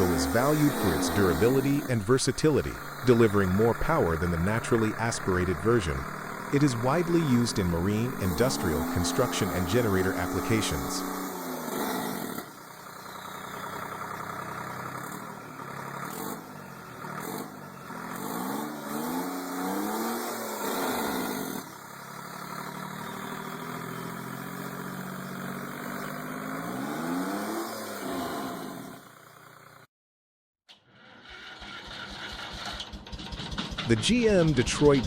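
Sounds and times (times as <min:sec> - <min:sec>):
diesel engine revving: 0:00.0 - 0:29.9, 0:31.4 - 0:35.0.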